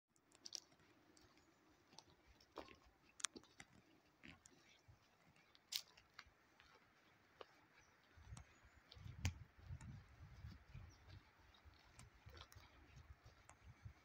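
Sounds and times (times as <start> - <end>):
footsteps crunching on dirt path: 0.4 - 14.0.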